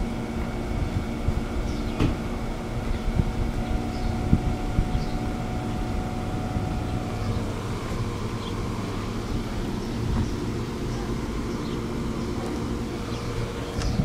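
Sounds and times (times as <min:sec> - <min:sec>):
train equipment rumbling: 0:00.0 - 0:14.0.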